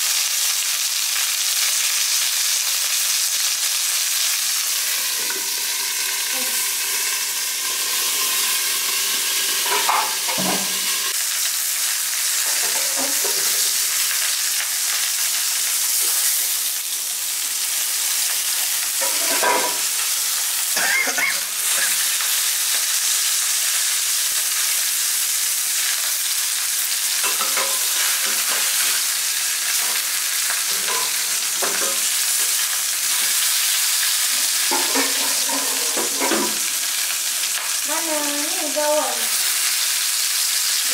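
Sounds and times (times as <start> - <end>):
fish sizzling in oil: 0.0 - 40.9.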